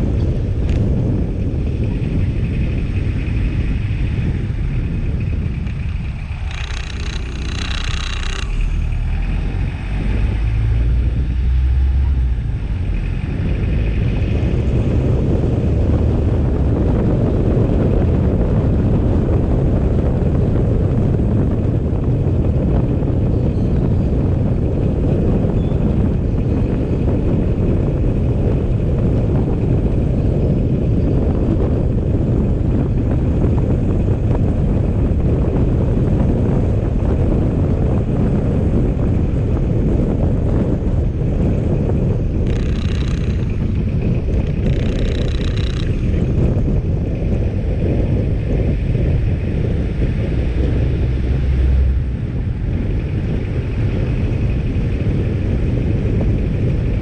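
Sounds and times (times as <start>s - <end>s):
vehicle engine and road noise: 0.0s - 57.0s
wind buffeting microphone: 0.0s - 57.0s.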